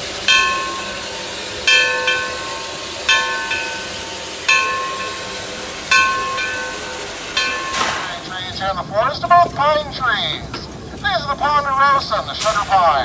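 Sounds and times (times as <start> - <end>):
locomotive bell ringing: 0.0 - 13.0
steam hissing: 0.0 - 13.0.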